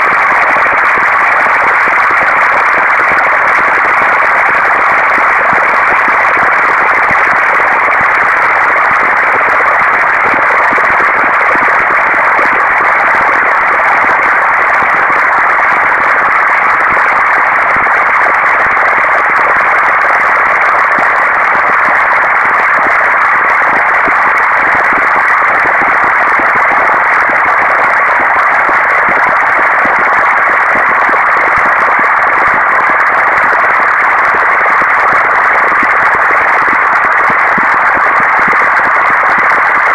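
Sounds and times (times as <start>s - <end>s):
grainy static-like noise: 0.0s - 39.9s.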